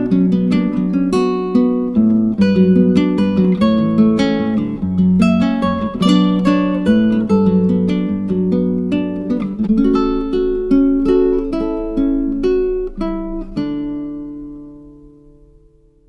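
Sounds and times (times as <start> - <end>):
picked acoustic guitar: 0.0 - 16.0.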